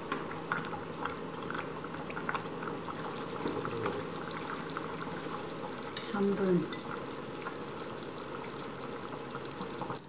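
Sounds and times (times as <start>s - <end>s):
sauce bubbling with small pops: 0.0s - 10.0s.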